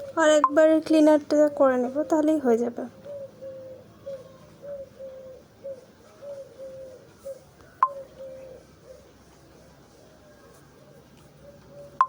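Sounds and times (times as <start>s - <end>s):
bird cooing: 0.0s - 12.0s.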